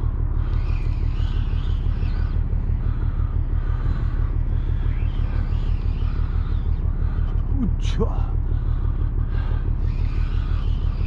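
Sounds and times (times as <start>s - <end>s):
faint high wavering sound: 0.0s - 11.0s
steady low rumble: 0.0s - 11.0s.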